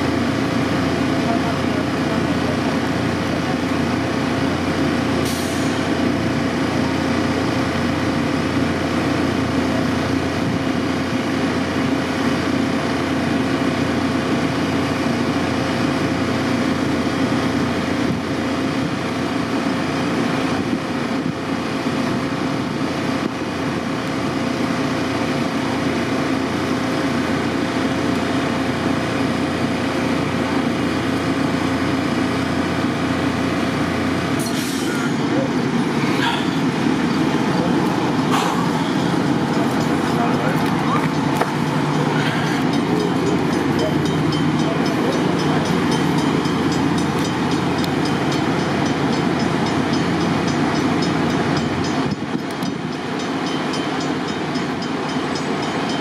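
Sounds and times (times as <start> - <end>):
vehicle idling hum: 0.0 - 56.0.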